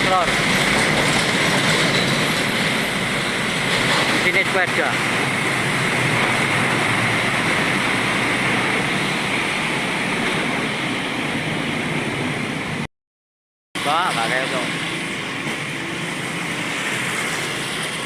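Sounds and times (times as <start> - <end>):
traffic hissing on wet road: 0.0 - 12.9, 13.8 - 18.0.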